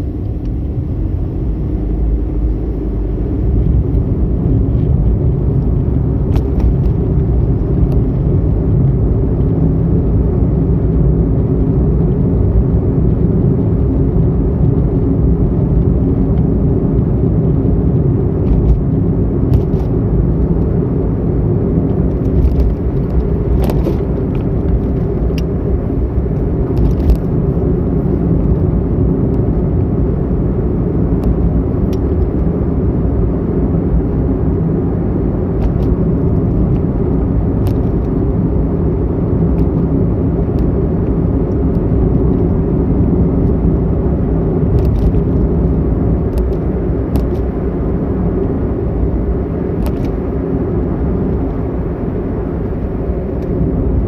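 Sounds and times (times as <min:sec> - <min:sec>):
car interior road rumble: 0:00.0 - 0:54.0.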